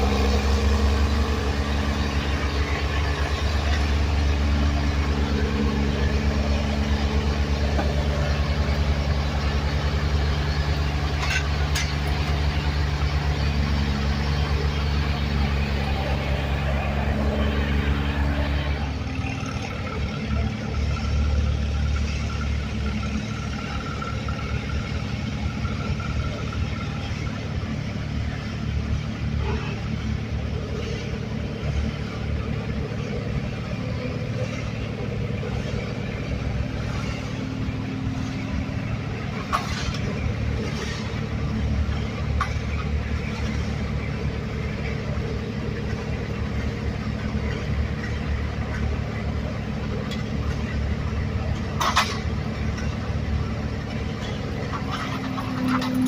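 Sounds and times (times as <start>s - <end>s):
engine rumbling: 0.0s - 56.0s.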